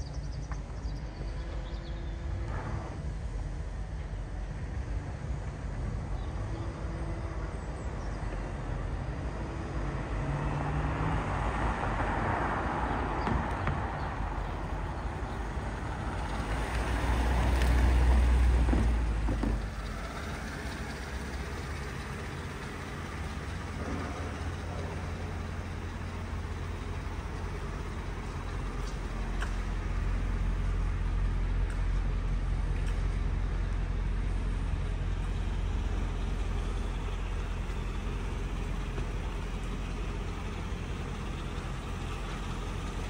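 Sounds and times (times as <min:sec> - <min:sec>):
car engine rumbling: 0:00.0 - 0:43.0.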